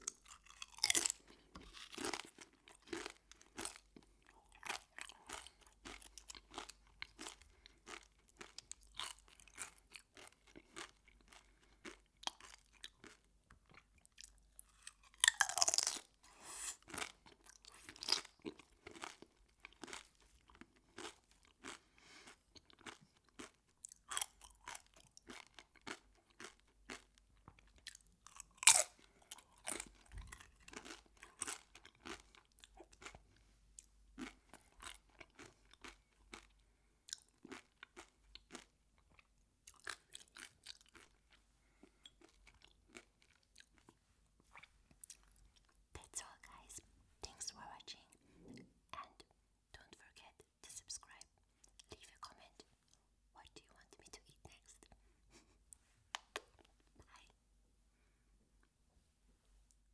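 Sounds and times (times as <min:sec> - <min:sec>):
chewing crunchy food: 0:00.0 - 0:57.3.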